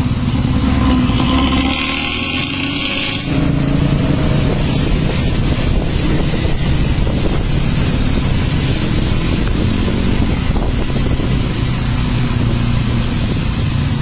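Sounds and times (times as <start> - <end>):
bus engine rumble: 0.0 - 14.0
loud hiss: 0.0 - 14.0.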